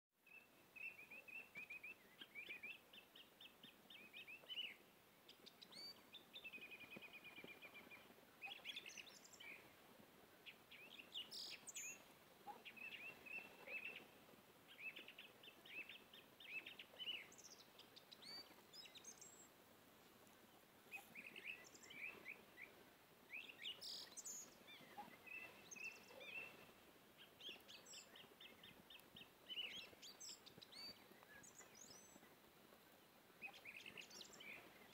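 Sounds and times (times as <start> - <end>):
faint birds chirping: 0.2 - 34.9.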